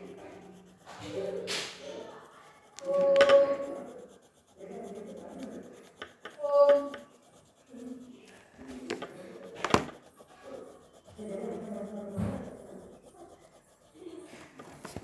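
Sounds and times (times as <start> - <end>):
pencil rubbing on paper: 0.0 - 15.0.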